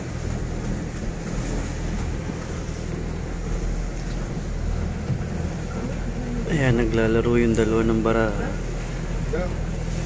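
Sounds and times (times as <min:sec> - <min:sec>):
boat engine drone: 0:00.0 - 0:10.0
rush of wind and water: 0:00.0 - 0:10.0.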